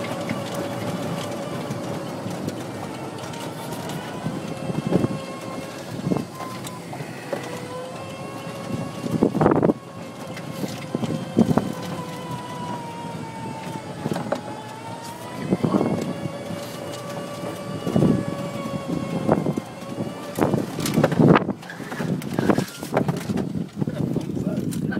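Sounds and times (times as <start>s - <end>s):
electric motor whine: 0.0s - 24.2s
cart body rattling and knocking: 0.0s - 24.9s
wind on microphone: 3.5s - 6.5s, 7.1s - 14.6s, 15.2s - 24.9s.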